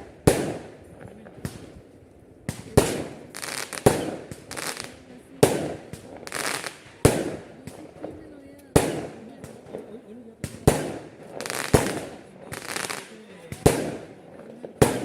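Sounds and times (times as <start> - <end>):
fireworks bangs with hiss: 0.0 - 15.0.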